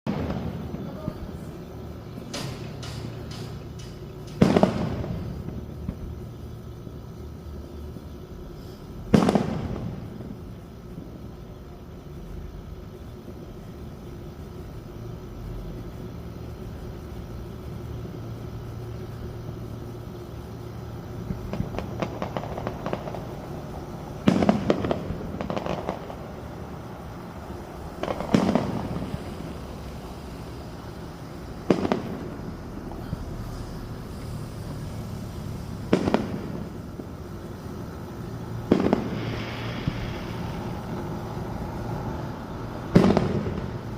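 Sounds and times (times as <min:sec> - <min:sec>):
loud fireworks bangs: 0:00.0 - 0:12.2, 0:12.8 - 0:43.9
fireworks crackling: 0:00.0 - 0:43.9.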